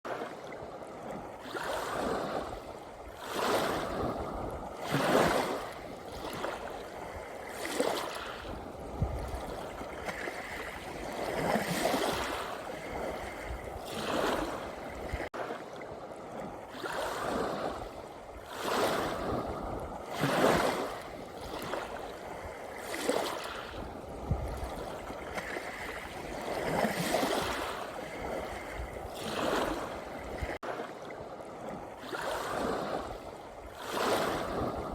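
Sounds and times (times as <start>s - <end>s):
sea waves breaking on shore: 0.0s - 34.9s.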